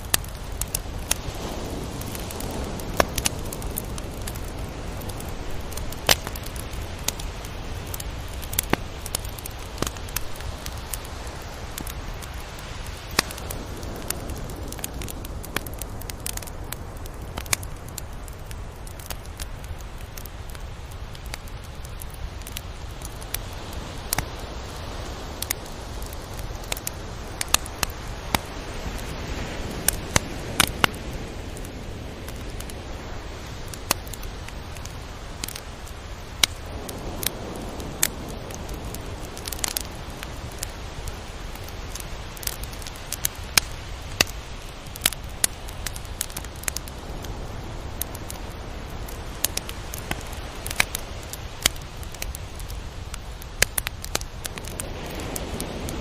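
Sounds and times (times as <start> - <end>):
sharp clicks and crackles: 0.0 - 24.4, 25.3 - 29.1, 33.7 - 47.4, 49.1 - 55.9
surf washing: 0.0 - 56.0.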